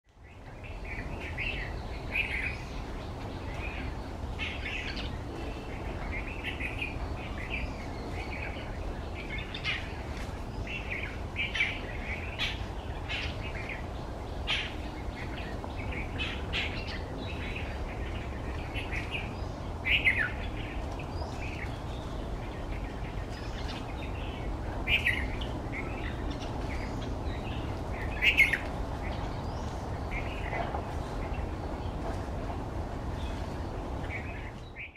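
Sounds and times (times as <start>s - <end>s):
birds chirping: 0.1s - 34.9s
low background noise: 0.1s - 34.9s.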